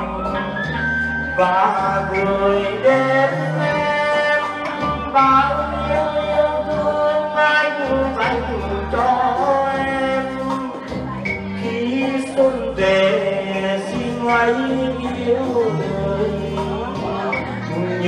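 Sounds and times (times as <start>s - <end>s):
backing track: 0.0s - 18.0s
man singing long notes: 0.0s - 18.0s.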